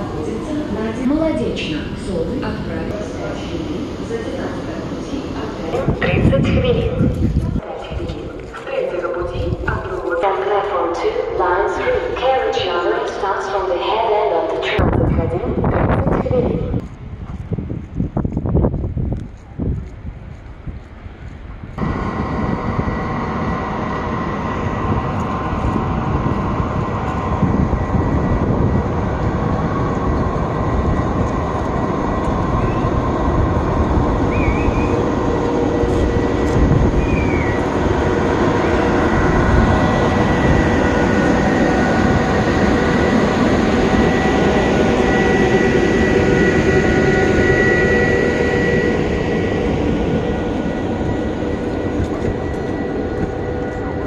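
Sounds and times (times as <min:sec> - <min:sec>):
steady whining tones: 0:00.0 - 0:17.5, 0:21.2 - 0:54.0
train rumbling on tracks: 0:00.0 - 0:54.0.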